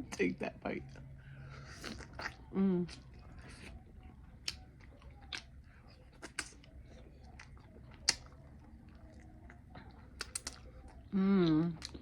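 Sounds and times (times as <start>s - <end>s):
close-up chewing with crunches: 0.9s - 12.0s.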